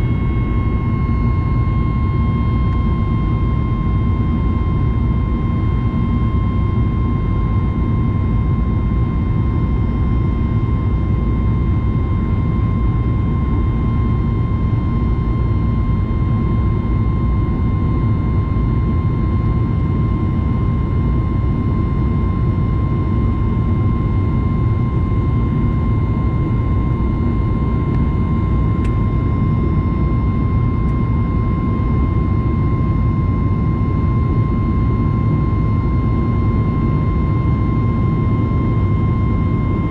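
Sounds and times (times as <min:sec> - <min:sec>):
jet engine and airflow rumble: 0:00.0 - 0:39.9
steady high whine: 0:00.0 - 0:39.9.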